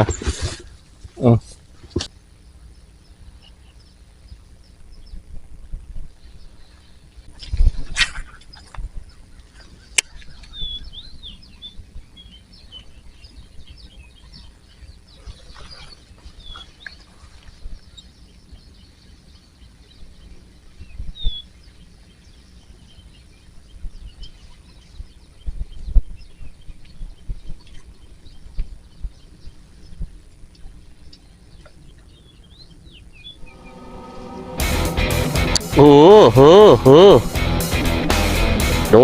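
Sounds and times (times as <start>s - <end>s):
small birds chirping: 0.0s - 37.7s.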